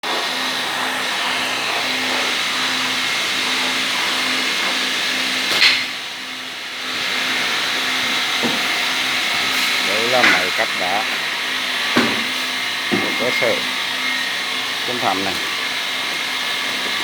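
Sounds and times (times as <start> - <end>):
stone-cutting machine motor whine: 0.0 - 17.0.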